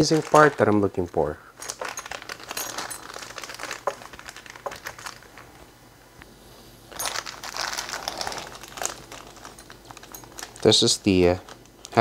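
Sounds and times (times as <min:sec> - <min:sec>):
plastic bag crinkling: 0:00.0 - 0:05.6, 0:06.9 - 0:12.0.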